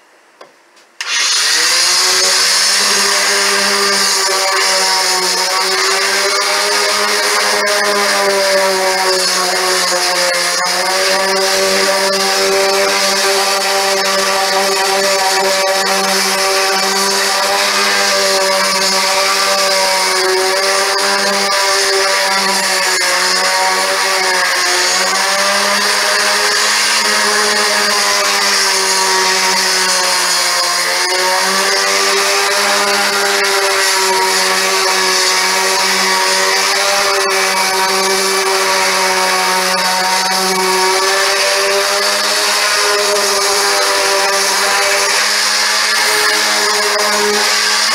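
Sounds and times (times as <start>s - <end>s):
electric orbital sander running: 1.0s - 47.9s.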